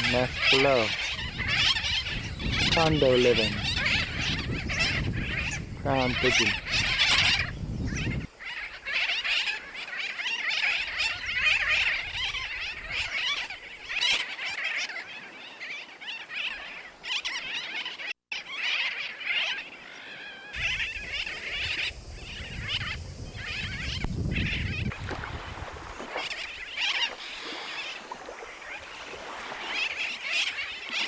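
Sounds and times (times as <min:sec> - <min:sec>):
bird colony chattering: 0:00.0 - 0:24.9, 0:26.2 - 0:31.0.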